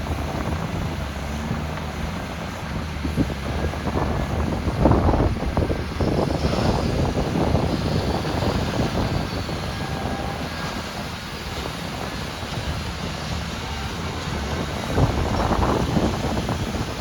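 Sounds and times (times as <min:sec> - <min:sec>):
excavator diesel engine rumble: 0:00.0 - 0:17.0.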